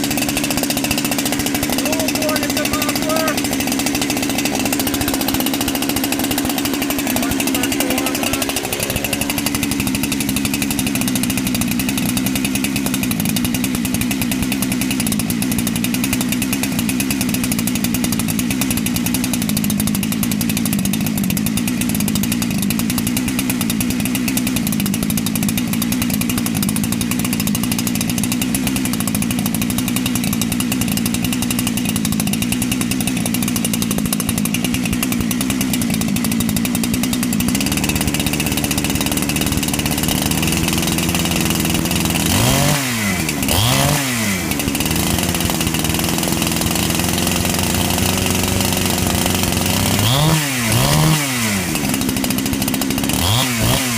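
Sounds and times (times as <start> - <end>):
chainsaw engine running: 0.0 - 53.9.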